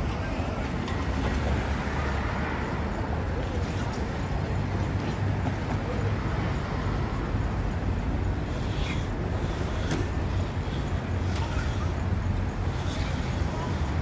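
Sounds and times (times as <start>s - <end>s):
city street noise: 0.0s - 14.0s.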